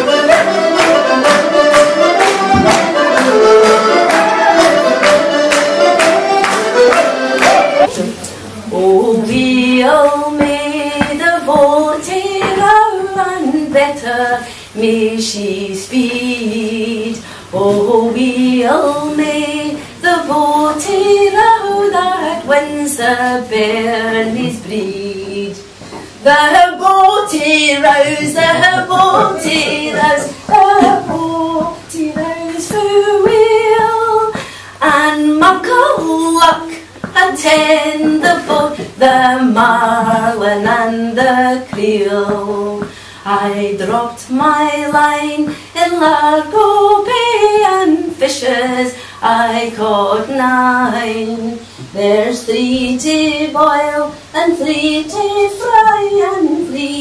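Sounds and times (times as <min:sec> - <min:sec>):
woman singing slow melody: 0:08.6 - 0:57.0.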